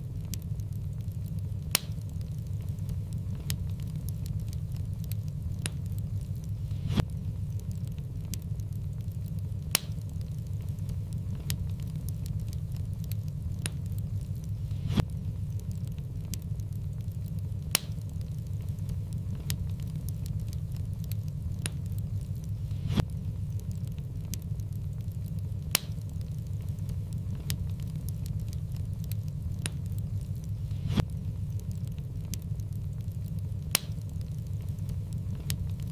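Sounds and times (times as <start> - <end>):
fire rumbling and crackling: 0.0 - 35.9
sharp pops of burning wood: 0.0 - 35.9.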